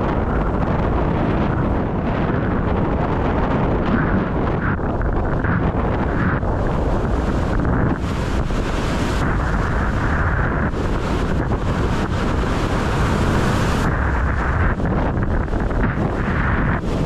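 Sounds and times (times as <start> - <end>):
water rushing under board: 0.0 - 17.0
wind buffeting microphone: 0.0 - 17.0.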